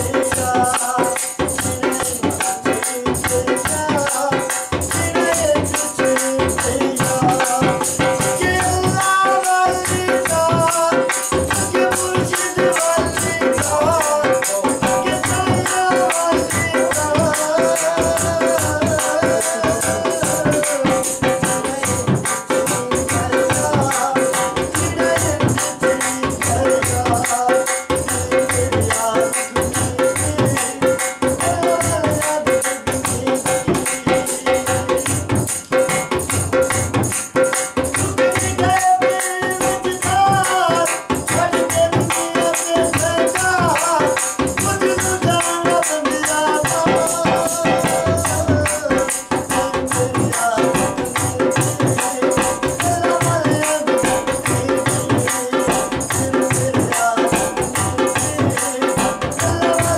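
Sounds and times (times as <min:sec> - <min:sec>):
dhol drum: 0:00.0 - 0:59.9
harmonium: 0:00.0 - 0:59.9
man singing: 0:00.0 - 0:59.9
rattling shaker percussion: 0:00.0 - 0:59.9.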